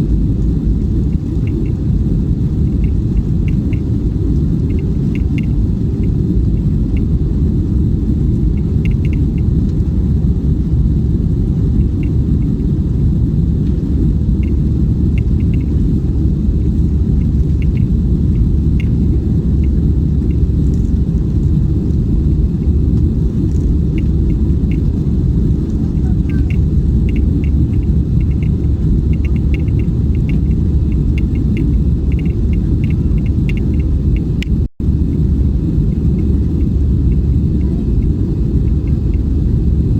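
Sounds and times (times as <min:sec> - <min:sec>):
light ticking rattles: 0:00.0 - 0:10.7, 0:11.4 - 0:39.9
aircraft cabin engine rumble: 0:00.0 - 0:39.9.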